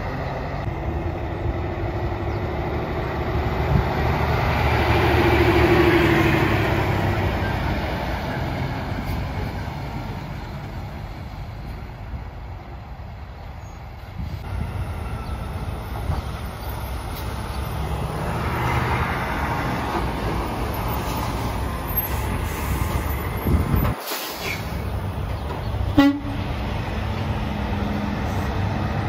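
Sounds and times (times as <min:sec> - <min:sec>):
semi-truck pulling away: 0:00.0 - 0:29.0
truck engine and tyre rumble passing: 0:00.0 - 0:29.0.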